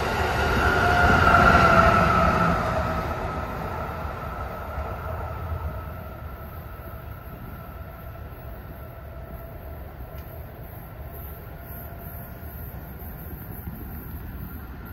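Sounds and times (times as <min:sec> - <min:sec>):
electric train rumbling: 0:00.0 - 0:14.9
high whine of train: 0:00.0 - 0:14.9.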